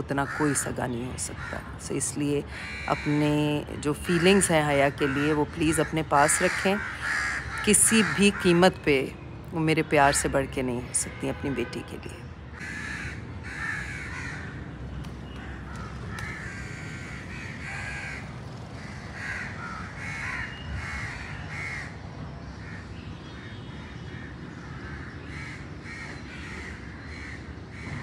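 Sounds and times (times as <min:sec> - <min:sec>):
crows cawing: 0:00.0 - 0:08.8, 0:12.5 - 0:22.0, 0:22.6 - 0:28.0
low background noise: 0:00.0 - 0:28.0.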